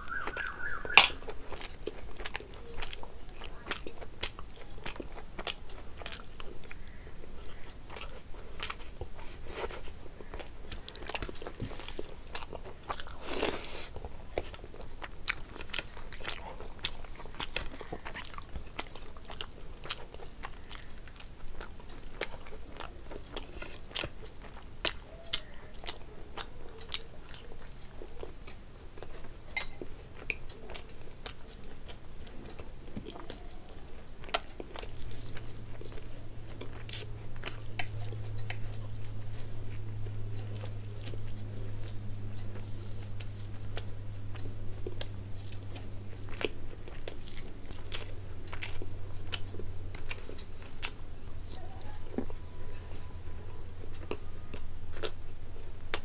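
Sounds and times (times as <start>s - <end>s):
person chewing and biting: 0.0s - 53.0s, 53.7s - 56.0s.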